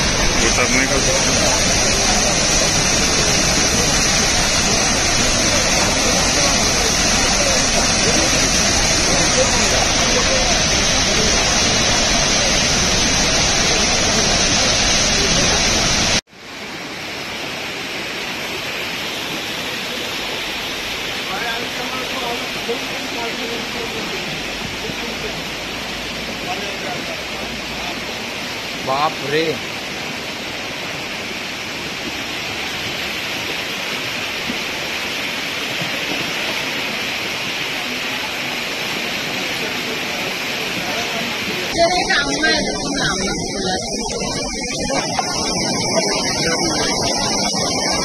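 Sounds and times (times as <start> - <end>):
water gushing from pipe: 0.0 - 16.2, 17.4 - 48.0
floodwater running down street: 0.0 - 48.0.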